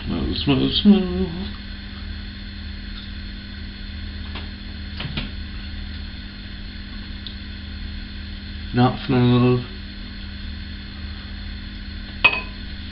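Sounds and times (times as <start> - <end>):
electrical hum: 0.0 - 12.9.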